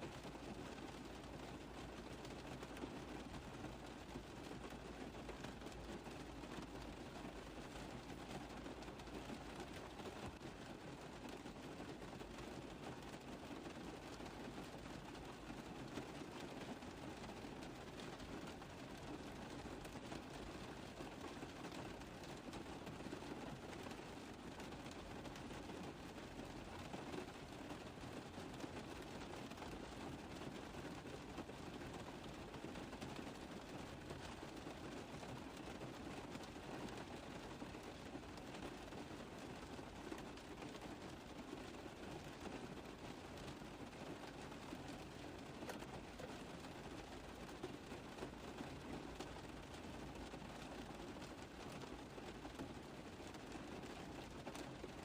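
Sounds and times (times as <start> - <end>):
rain on a car roof: 0.0 - 55.0.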